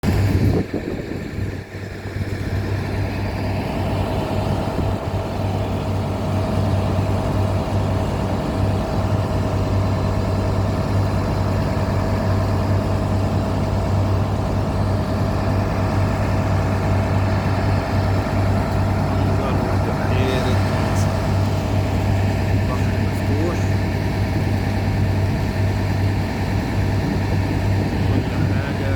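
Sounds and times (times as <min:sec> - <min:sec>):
heavy engine running under load: 0:00.0 - 0:28.9.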